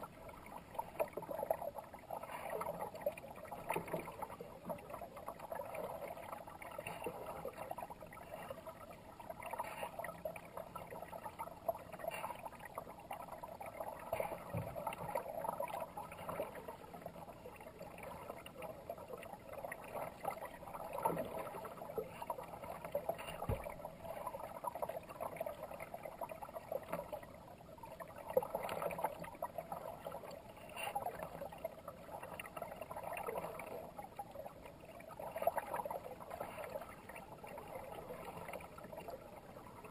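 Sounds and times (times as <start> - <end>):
water gurgling and splashing: 0.0 - 39.9.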